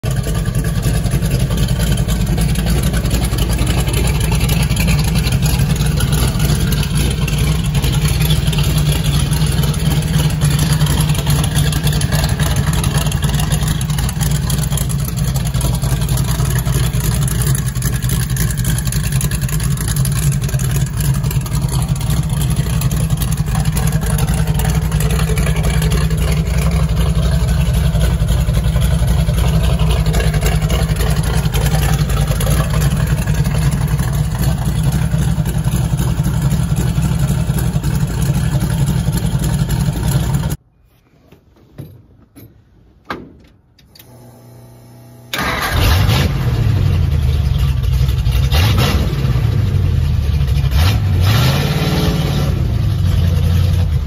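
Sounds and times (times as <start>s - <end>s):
car engine idling: 0.0s - 40.6s, 44.2s - 51.2s, 52.6s - 54.0s.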